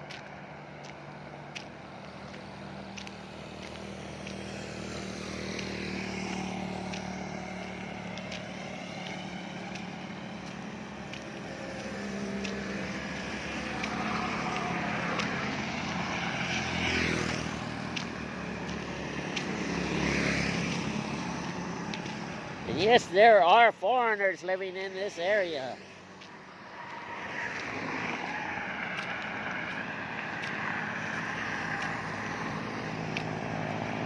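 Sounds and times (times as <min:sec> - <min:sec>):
low engine hum: 0:00.0 - 0:23.8, 0:25.8 - 0:34.0
vehicles passing on highway: 0:00.0 - 0:34.0.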